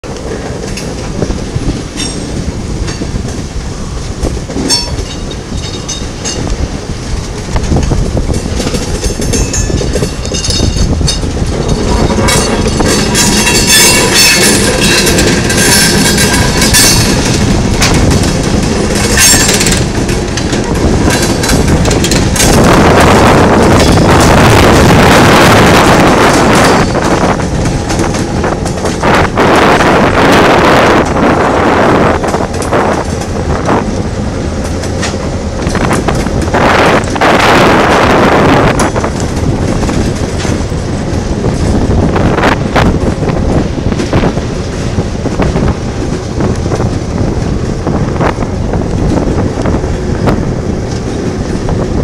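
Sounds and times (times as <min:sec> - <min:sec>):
diesel locomotive engine rumble: 0:00.0 - 0:52.0
wheels clicking over rail joints: 0:00.0 - 0:52.0
wind buffeting microphone: 0:00.0 - 0:52.0.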